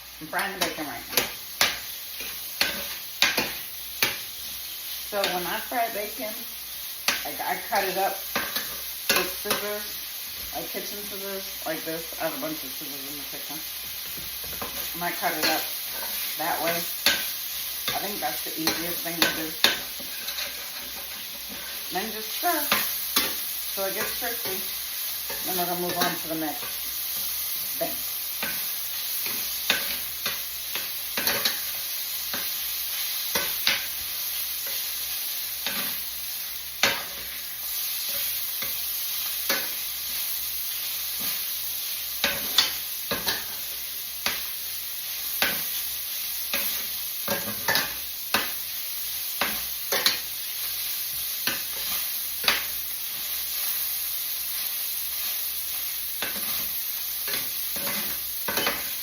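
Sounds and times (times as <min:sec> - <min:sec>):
bacon sizzling in a pan: 0:00.0 - 0:59.0.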